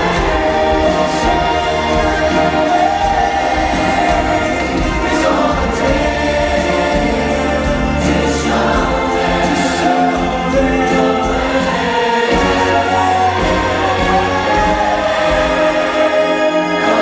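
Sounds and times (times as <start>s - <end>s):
band playing: 0.0s - 17.0s
choir singing gospel: 0.0s - 17.0s.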